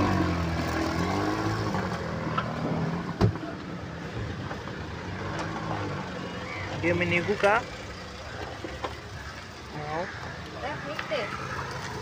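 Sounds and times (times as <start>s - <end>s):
traffic background: 0.0s - 12.0s.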